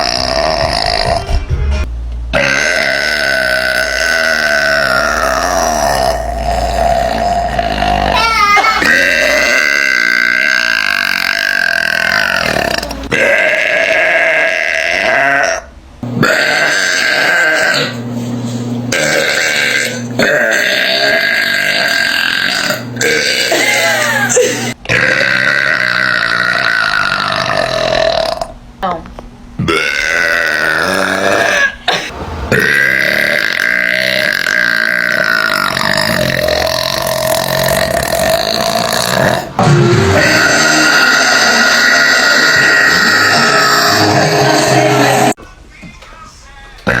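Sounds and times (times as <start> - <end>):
woman belching: 0.0 - 1.2, 2.4 - 17.9, 18.9 - 29.0, 29.6 - 45.4.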